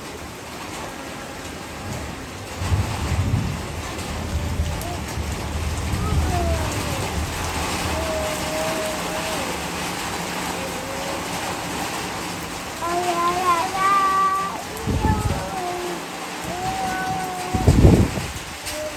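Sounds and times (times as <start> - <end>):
rain falling: 0.0 - 18.9.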